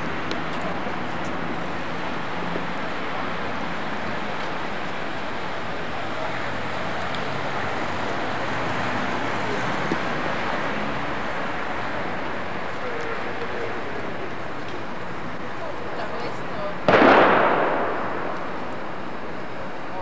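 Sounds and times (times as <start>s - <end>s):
distant traffic hiss: 0.0s - 20.0s.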